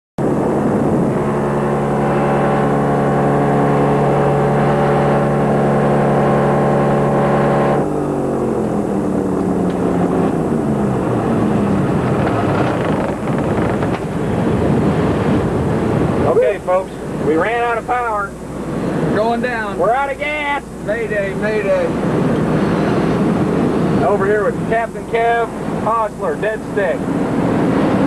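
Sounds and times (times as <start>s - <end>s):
wind rush: 0.2s - 17.7s, 20.2s - 26.2s, 26.8s - 28.0s
propeller engine running: 0.2s - 28.0s
propeller winding down: 0.2s - 28.0s.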